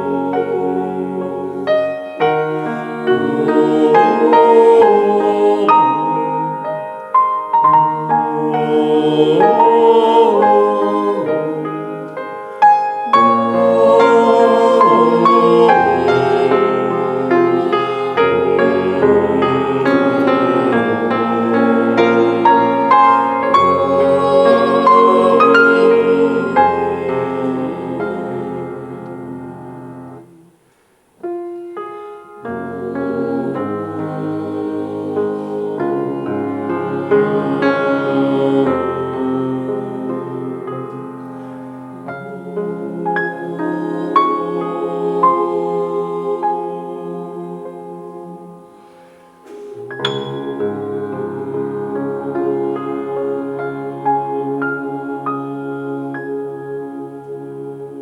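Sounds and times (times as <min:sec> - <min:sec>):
piano playing: 0:00.0 - 0:30.5, 0:31.2 - 0:58.0
vocal ensemble singing chords: 0:00.0 - 0:58.0.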